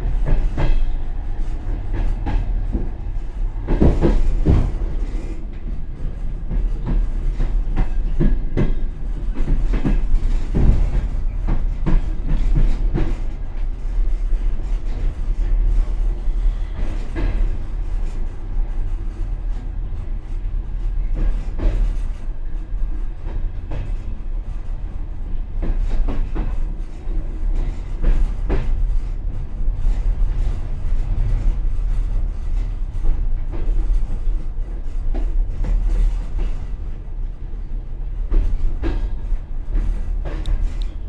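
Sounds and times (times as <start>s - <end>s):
train car rumbling: 0.0s - 41.0s.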